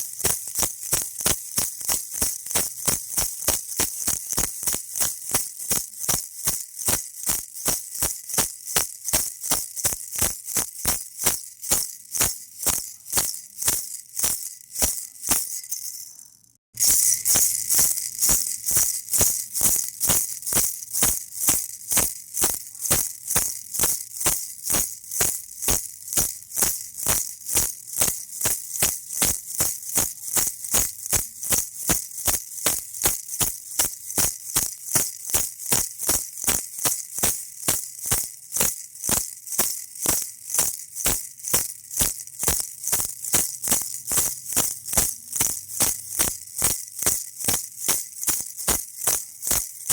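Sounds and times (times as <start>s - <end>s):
baby toy rattle shaking: 0.0s - 49.9s.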